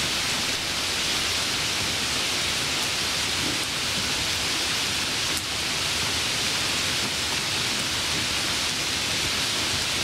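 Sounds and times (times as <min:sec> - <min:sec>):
steady rain-like hiss: 0:00.0 - 0:10.0.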